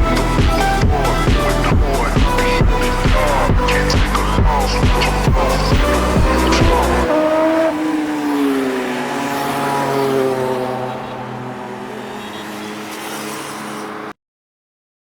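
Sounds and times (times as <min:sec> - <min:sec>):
motorcycle engine passing by: 0:00.0 - 0:14.1.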